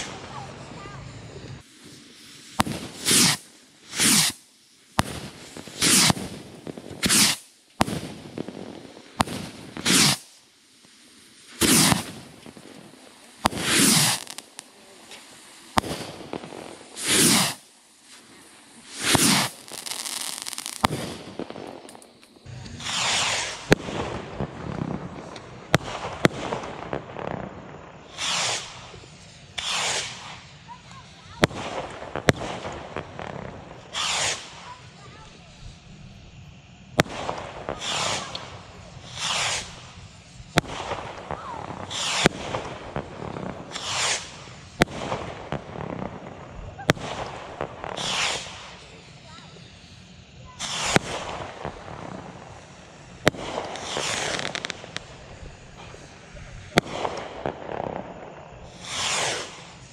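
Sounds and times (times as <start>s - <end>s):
rockets launching with whoosh: 0.0s - 10.3s, 11.4s - 59.9s
rockets bursting with pops: 0.0s - 59.9s.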